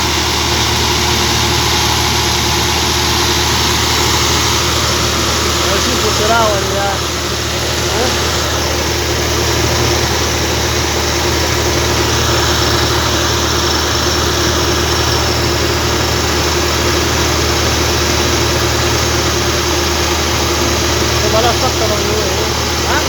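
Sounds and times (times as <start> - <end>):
drilling machine diesel engine: 0.0 - 23.0.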